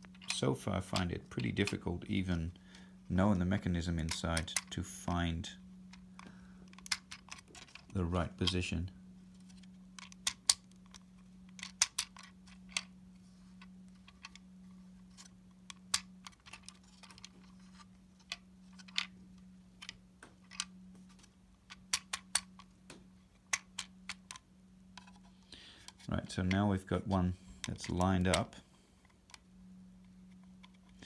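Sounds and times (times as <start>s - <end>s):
faint steady hum: 0.0s - 31.0s
plastic parts clicking and rattling: 0.0s - 31.0s.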